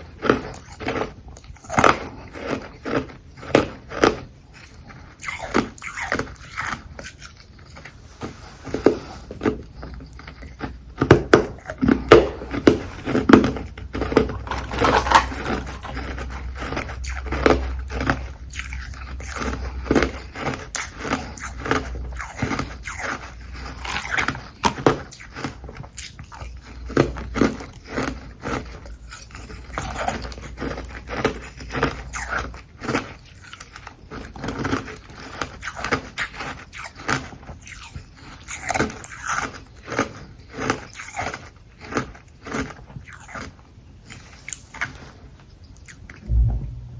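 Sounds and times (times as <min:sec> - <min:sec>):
chewing crunchy ice: 0:00.0 - 0:46.3.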